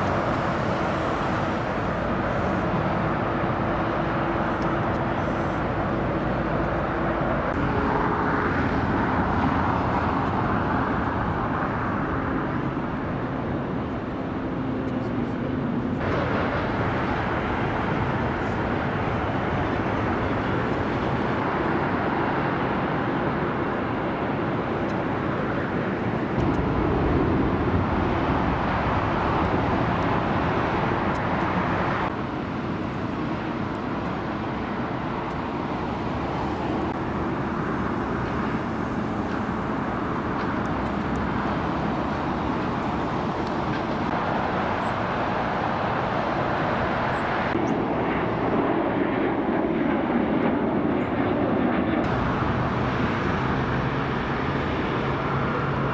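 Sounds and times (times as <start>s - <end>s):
jet engines rushing: 0.0s - 55.9s.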